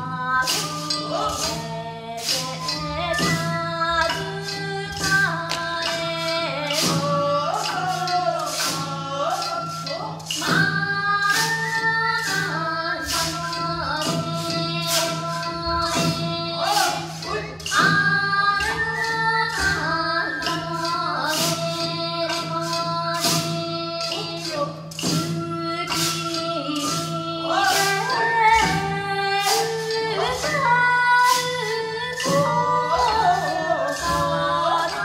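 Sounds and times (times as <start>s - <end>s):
bamboo flute: 0.0s - 35.0s
person singing: 0.0s - 35.0s
sharp percussion strikes: 0.0s - 35.0s.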